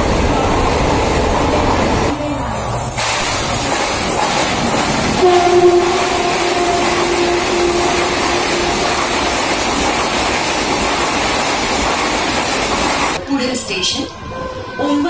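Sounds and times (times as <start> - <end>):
train wheel rushing noise: 0.0 - 13.2.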